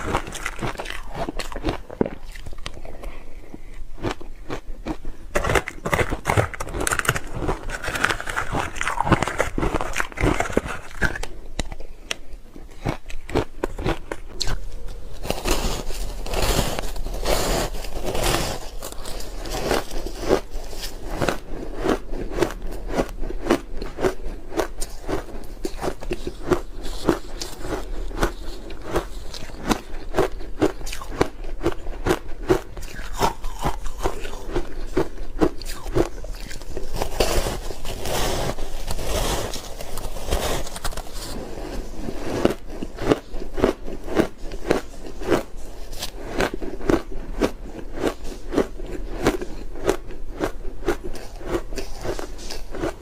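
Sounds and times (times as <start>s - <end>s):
chewing ice crunching: 0.0s - 53.0s.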